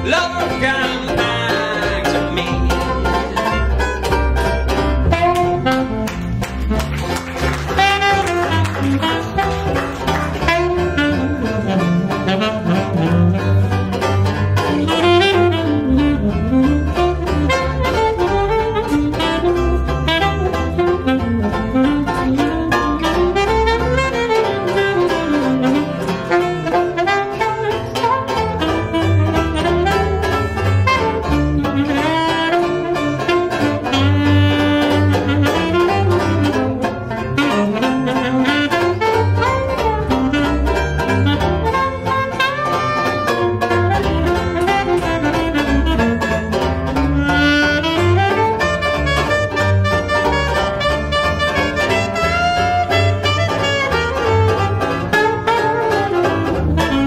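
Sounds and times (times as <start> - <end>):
saxophone jazz solo: 0.0 - 57.0
strummed banjo chords: 0.0 - 57.0
walking double bass: 0.0 - 57.0.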